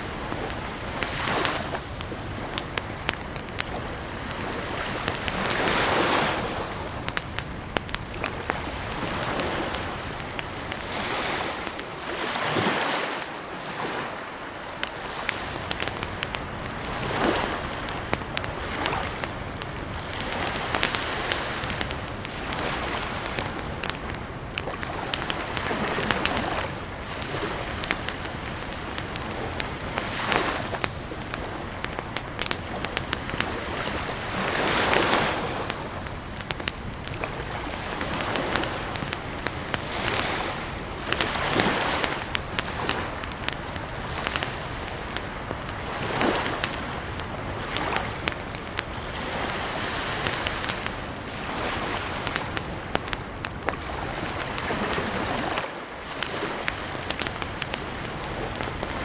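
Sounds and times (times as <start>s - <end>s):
campfire crackling and popping: 0.0s - 59.0s
soft whooshing of fire: 0.0s - 59.0s.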